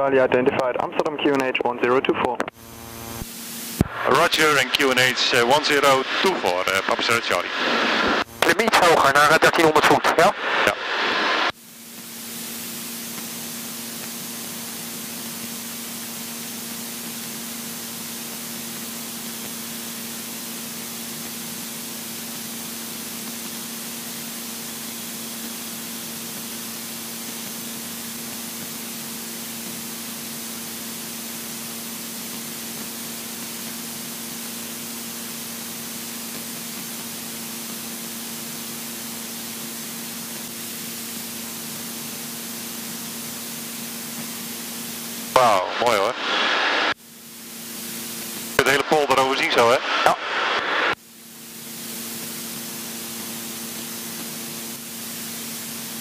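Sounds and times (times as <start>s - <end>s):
engine and propeller hum: 2.4s - 7.0s, 11.5s - 46.2s, 46.8s - 49.1s, 51.0s - 56.0s.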